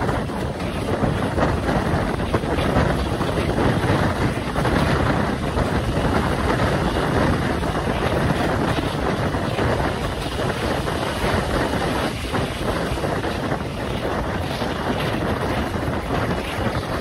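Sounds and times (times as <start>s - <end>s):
train rumbling on track: 0.0s - 17.0s
wind rushing on microphone: 0.0s - 17.0s.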